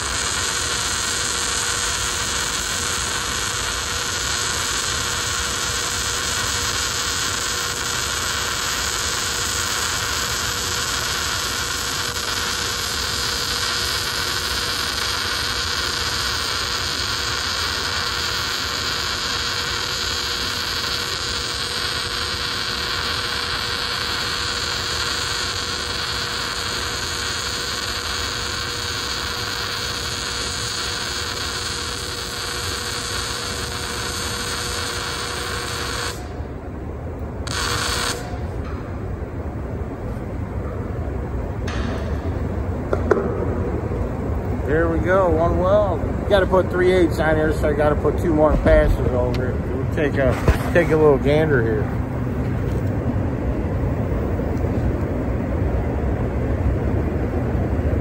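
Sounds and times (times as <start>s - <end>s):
welding arc noise: 0.0s - 36.6s, 37.2s - 38.7s, 41.6s - 53.1s.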